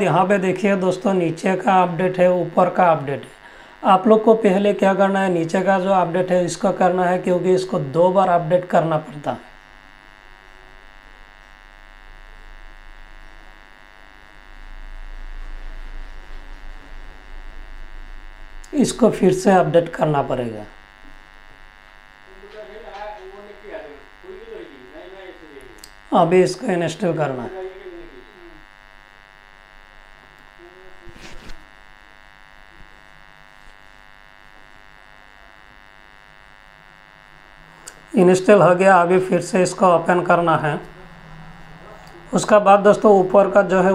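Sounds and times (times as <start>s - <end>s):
electrical buzz: 0.0s - 43.9s
low mains hum: 0.0s - 43.9s.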